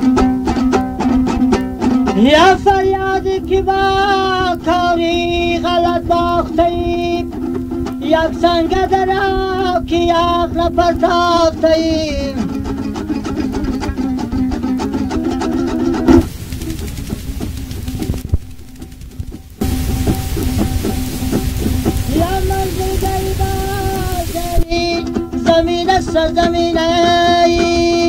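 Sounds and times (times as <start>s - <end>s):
long-necked lute strummed: 0.0s - 28.0s
person singing folk song: 0.0s - 28.0s.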